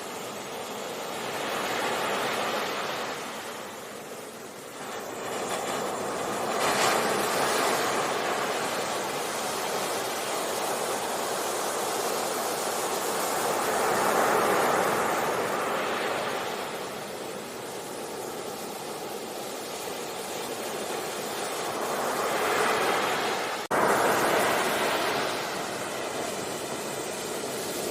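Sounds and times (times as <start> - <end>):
waves breaking on a beach: 0.0 - 27.9.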